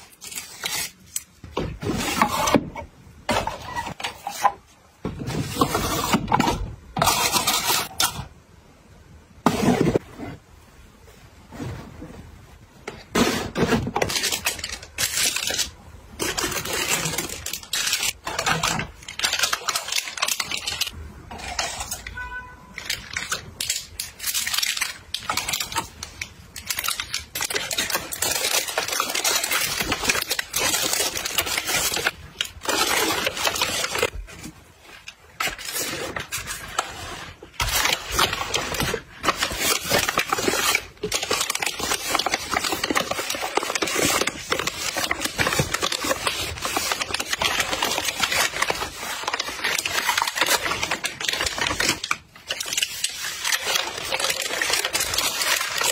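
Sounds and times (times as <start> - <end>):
plastic packaging crinkling: 0.0 - 8.3, 12.9 - 55.9.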